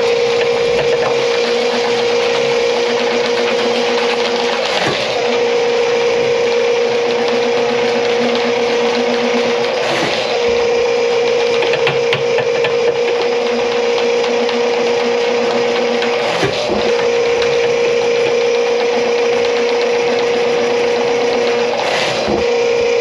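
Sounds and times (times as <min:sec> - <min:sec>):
drain-cleaning machine humming: 0:00.0 - 0:23.0.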